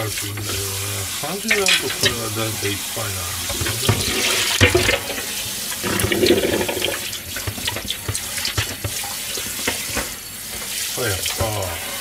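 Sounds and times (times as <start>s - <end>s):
sponge scrubbing tray: 0.0s - 12.0s
tap water running onto metal tray: 0.0s - 12.0s.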